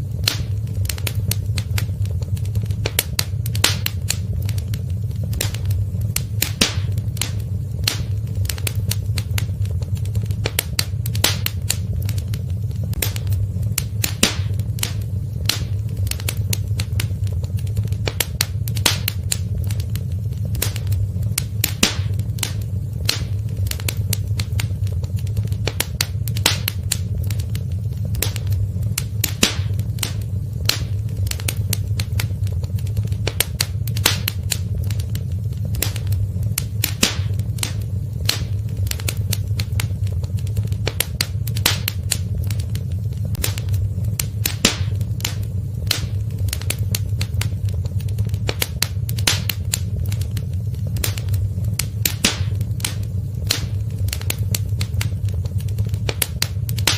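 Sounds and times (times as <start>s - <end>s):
low rumble: 0.0s - 56.9s
wood fire crackling: 0.0s - 56.9s.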